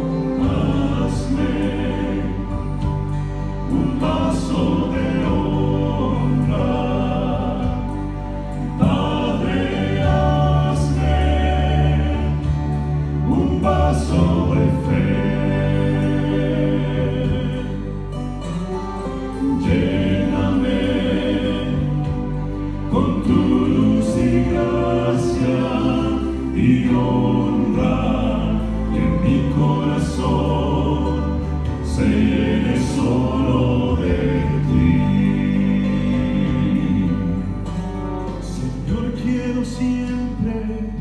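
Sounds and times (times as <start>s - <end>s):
male vocal quartet singing a hymn: 0.0s - 41.0s.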